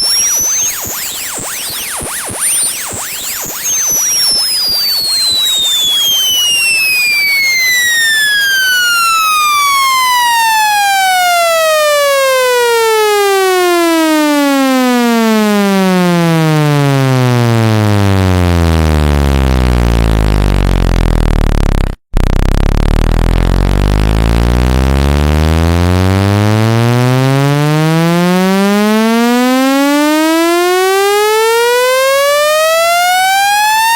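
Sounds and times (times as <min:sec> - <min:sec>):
buzzy tone sliding down in pitch: 0:00.0 - 0:33.9.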